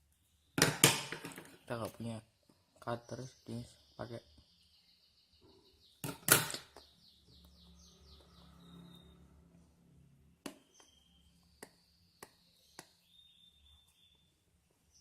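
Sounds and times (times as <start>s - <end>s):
bird chirping: 1.4s - 15.0s.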